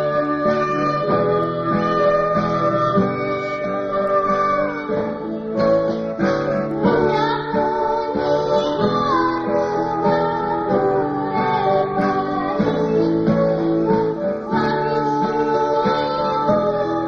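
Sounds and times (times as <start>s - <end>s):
person singing in high voice: 0.0s - 17.0s
strummed acoustic guitar: 0.0s - 17.0s.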